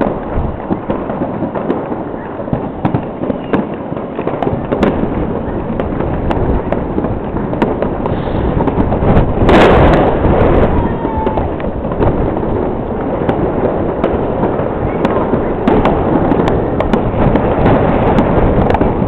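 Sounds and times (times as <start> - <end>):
distant fireworks crackling: 0.0 - 19.0.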